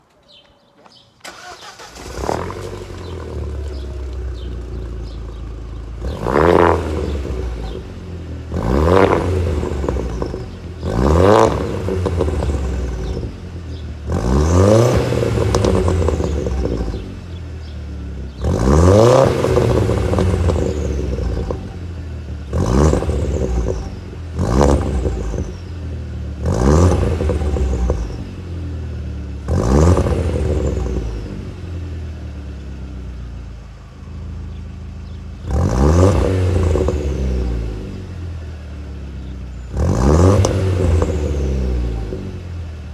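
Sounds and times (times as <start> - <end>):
exhaust crackles and pops: 0.9 - 28.5, 29.4 - 31.6, 35.5 - 38.0, 39.6 - 42.5
car engine idling and revving: 1.2 - 42.9.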